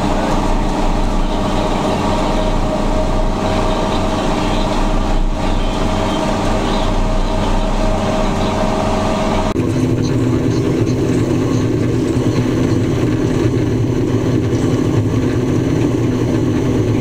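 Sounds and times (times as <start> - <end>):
road rumble: 0.0 - 17.0
tractor diesel engine drone: 0.0 - 17.0.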